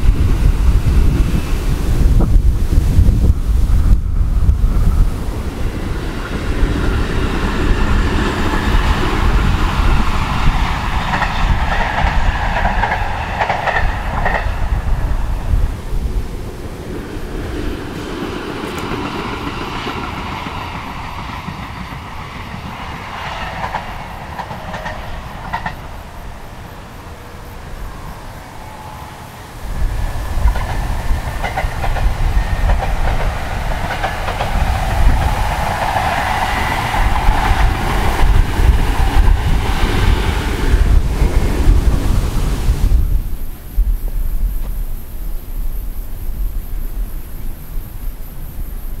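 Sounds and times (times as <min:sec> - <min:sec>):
train wheels clickety-clacking: 0:00.0 - 0:15.7, 0:16.9 - 0:42.6
electric train passing: 0:00.0 - 0:49.0
wind rumble on microphone: 0:00.0 - 0:49.0.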